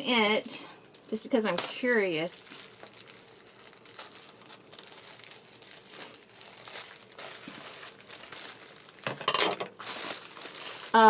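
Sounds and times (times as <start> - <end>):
plastic mailer bag crinkling: 0.1 - 11.0.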